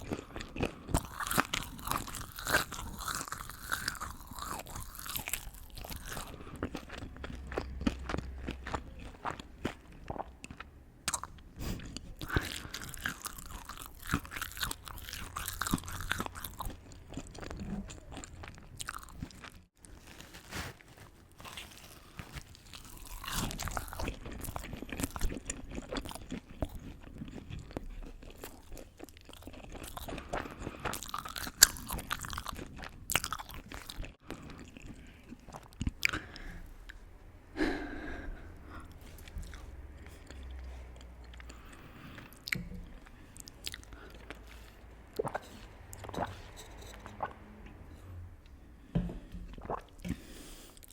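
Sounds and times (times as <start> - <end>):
person chewing crunchy food: 0.0 - 37.0, 38.6 - 47.8, 48.8 - 50.9.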